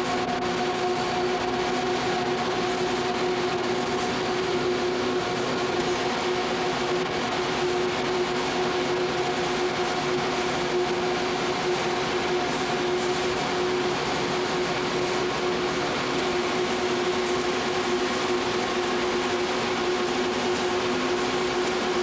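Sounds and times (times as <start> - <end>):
server cooling fans whirring: 0.0 - 22.0.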